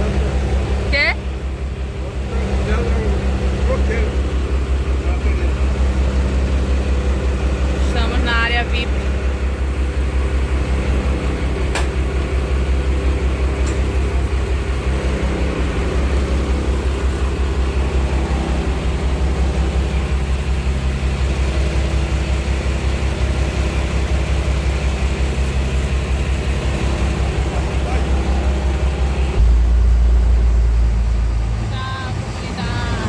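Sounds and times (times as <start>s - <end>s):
motorboat engine droning: 0.0s - 33.0s.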